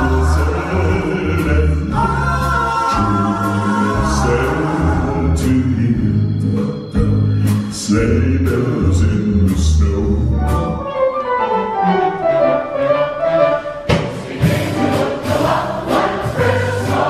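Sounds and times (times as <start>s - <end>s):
stage music with singing: 0.0s - 11.9s, 13.2s - 17.0s.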